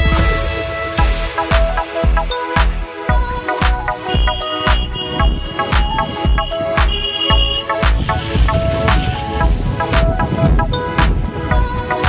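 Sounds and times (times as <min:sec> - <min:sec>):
electronic music with bass beat: 0:00.0 - 0:12.0.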